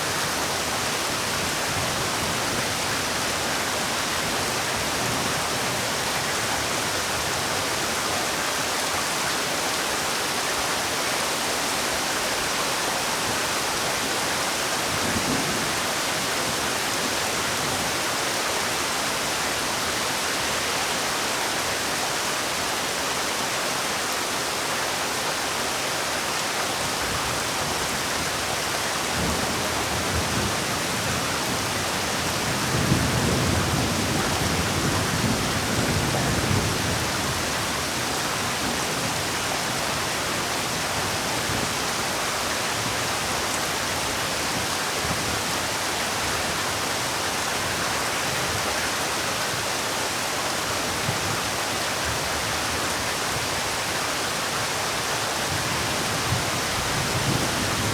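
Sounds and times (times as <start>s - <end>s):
rainfall hiss: 0.0s - 57.9s.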